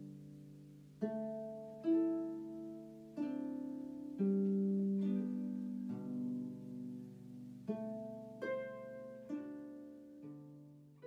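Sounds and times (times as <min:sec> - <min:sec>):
solo harp music: 0:00.0 - 0:11.0.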